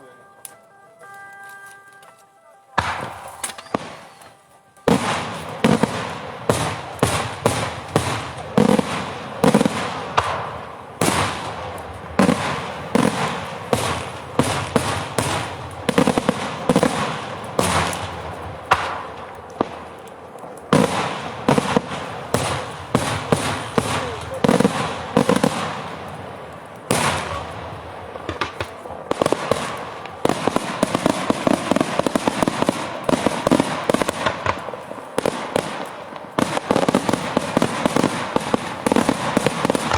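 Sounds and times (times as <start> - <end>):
fireworks bangs echoing: 2.7 - 39.9.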